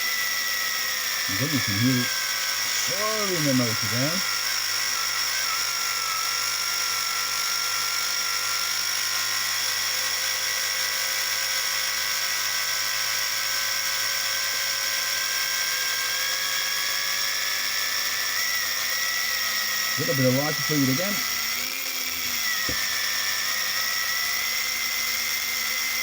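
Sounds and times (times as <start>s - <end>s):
small electric motor whining: 0.0s - 26.0s.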